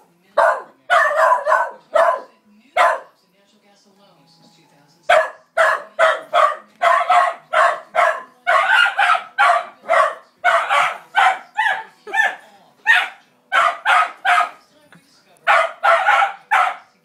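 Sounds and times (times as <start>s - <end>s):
dog barking rapidly: 0.4s - 3.2s, 5.1s - 14.6s, 15.5s - 17.0s.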